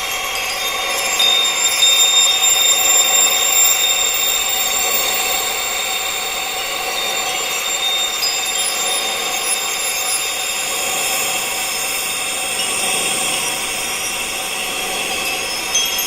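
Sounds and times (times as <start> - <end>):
high-pitched electronic drone: 0.0 - 16.0.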